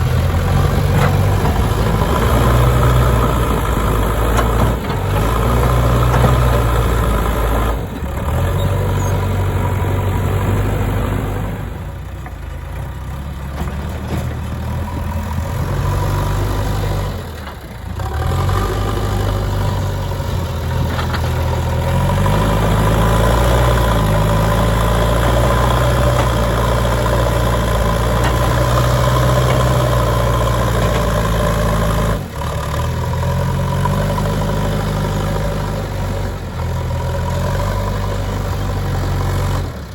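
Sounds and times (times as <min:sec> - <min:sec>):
diesel engine revving under load: 0:00.0 - 0:39.9.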